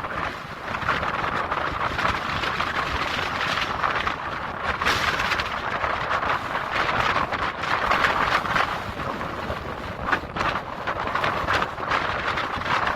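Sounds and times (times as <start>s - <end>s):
waves washing onto beach: 0.0s - 12.9s
wind blowing across microphone: 0.0s - 12.9s.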